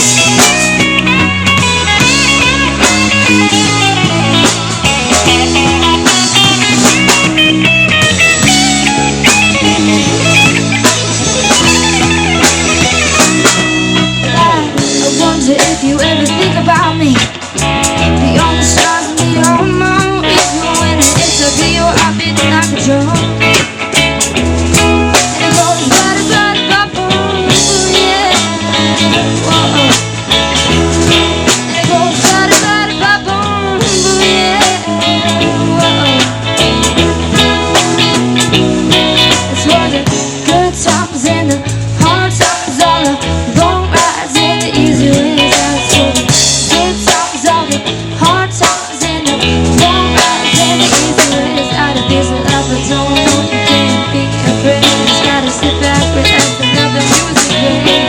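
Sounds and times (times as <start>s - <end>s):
electric guitar lines: 0.0s - 58.0s
live rock band playing: 0.0s - 58.0s.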